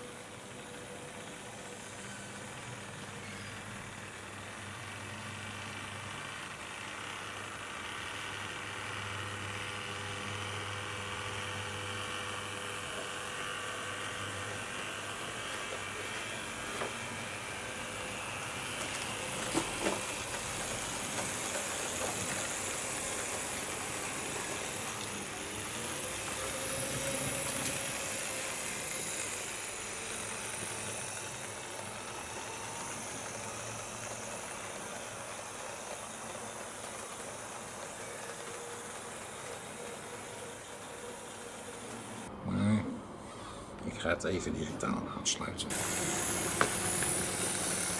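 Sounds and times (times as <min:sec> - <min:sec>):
model train motor whirring: 0:00.0 - 0:42.3, 0:45.7 - 0:47.9.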